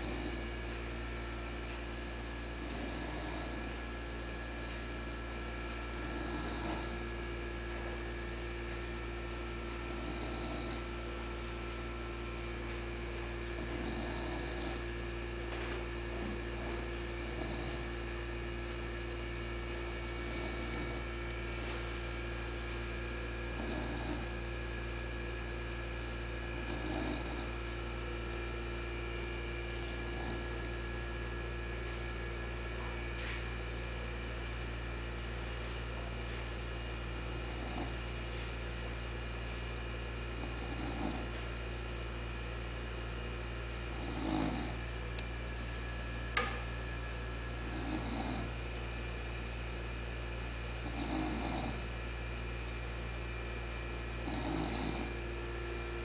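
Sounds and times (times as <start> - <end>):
dog snoring softly: 0.0 - 56.0
electrical hum: 0.0 - 56.0.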